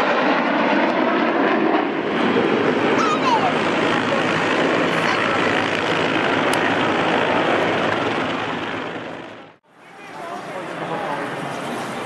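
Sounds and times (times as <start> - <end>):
aircraft engines droning: 0.0 - 12.0.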